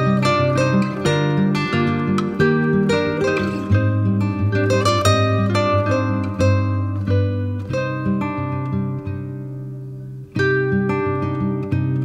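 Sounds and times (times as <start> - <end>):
acoustic guitar instrumental music: 0.0 - 12.0.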